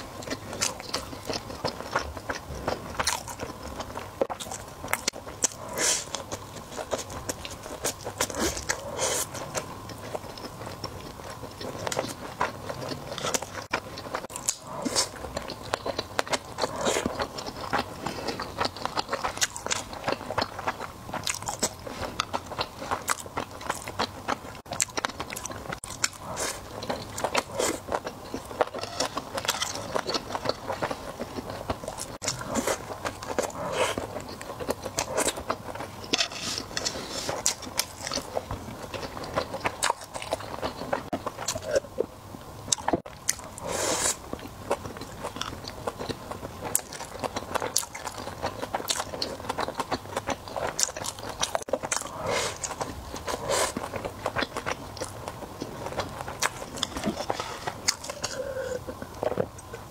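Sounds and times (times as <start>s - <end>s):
person chewing sushi: 0.0s - 59.9s.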